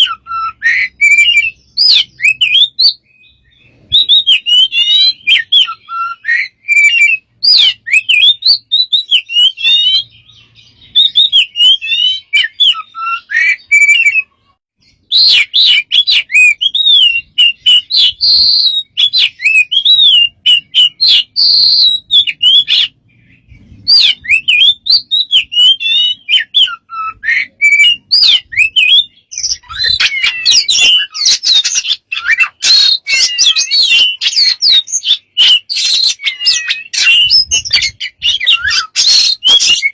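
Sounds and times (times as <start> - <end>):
bird singing warbling whistles: 0.0 - 39.9.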